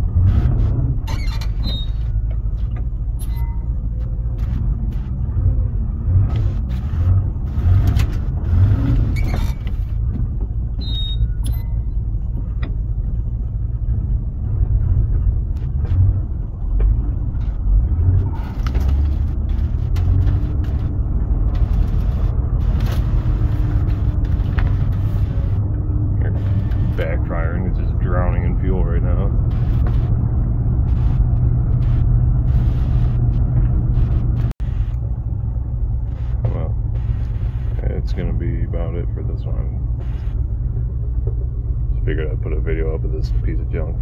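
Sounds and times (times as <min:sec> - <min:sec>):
engine low rumble: 0:00.0 - 0:44.0.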